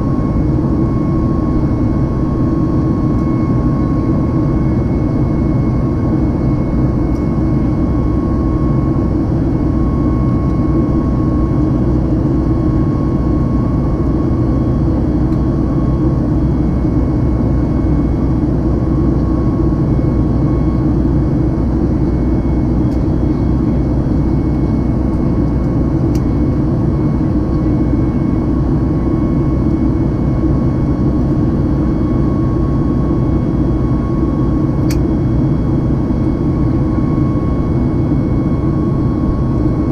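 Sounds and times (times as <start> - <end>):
airplane cabin rumble: 0.0 - 39.9
faint steady whine: 0.0 - 39.9.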